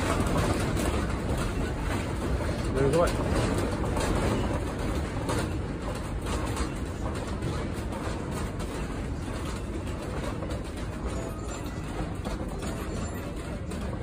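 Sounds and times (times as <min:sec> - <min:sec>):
knocks and rattles: 0:00.0 - 0:14.0.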